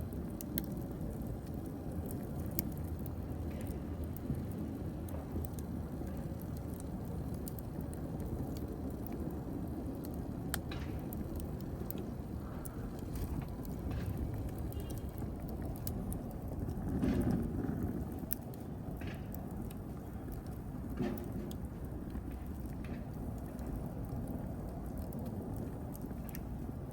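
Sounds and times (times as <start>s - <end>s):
fire crackles and pops: 0.0s - 26.9s
rumble of flames: 0.0s - 26.9s.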